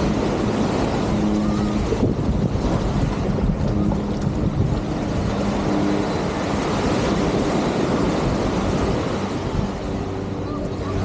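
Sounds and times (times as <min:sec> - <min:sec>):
faint hum: 0:00.0 - 0:11.0
surf washing on beach: 0:00.0 - 0:11.0
wind buffeting microphone: 0:00.0 - 0:11.0.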